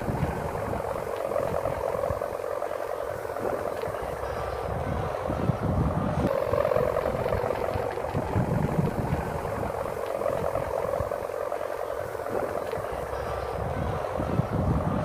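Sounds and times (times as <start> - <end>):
kite hummer bow droning: 0.0 - 15.0.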